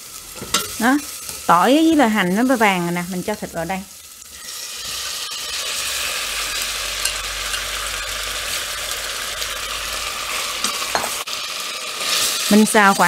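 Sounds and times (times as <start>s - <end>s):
pork sizzling in hot oil: 0.0s - 13.0s.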